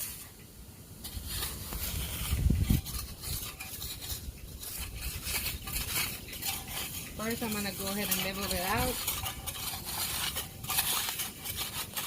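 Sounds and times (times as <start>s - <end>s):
digging tool scraping dirt: 0.0s - 12.0s.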